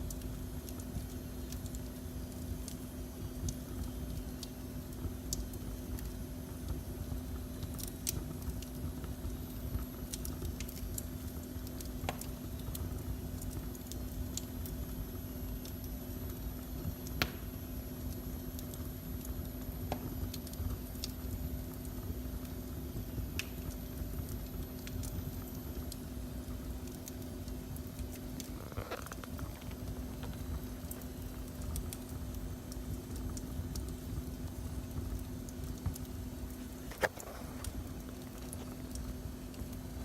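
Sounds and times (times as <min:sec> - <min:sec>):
low rumble and hum: 0:00.0 - 0:40.0
wood fire crackling and popping: 0:00.0 - 0:40.0.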